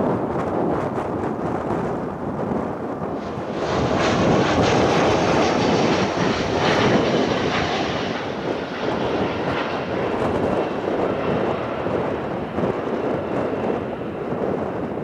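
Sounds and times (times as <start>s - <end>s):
jet engines taxiing: 0.2s - 15.0s.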